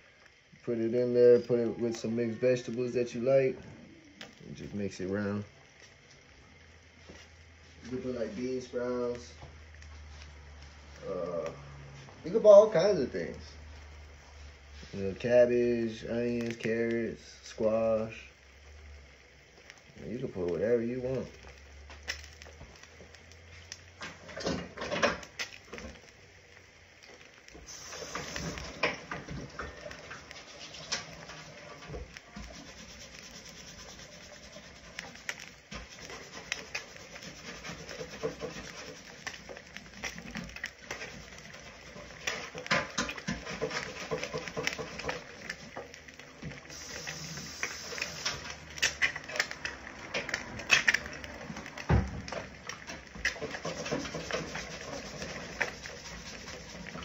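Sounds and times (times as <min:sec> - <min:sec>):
eggs frying with crackling fat: 0:00.0 - 0:57.0.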